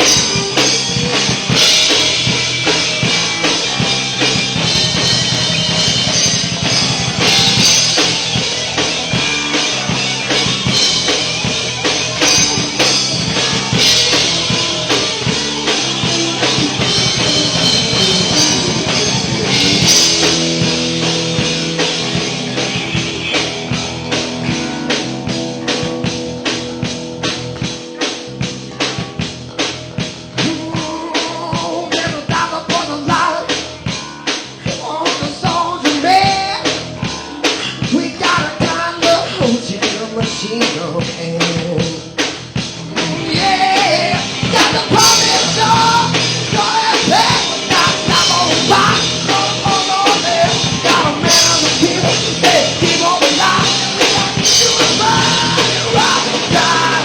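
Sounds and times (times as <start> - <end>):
bending lead melody: 0.0 - 34.6, 41.0 - 57.0
drum kit fast beat: 0.0 - 57.0
live rock band playing: 0.0 - 57.0.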